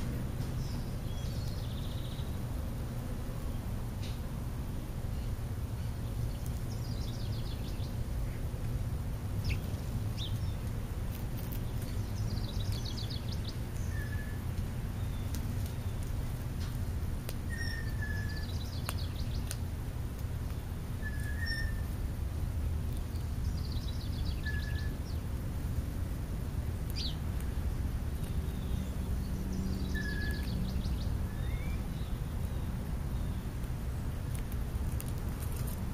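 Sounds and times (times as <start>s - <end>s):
low background rumble: 0.0s - 35.9s.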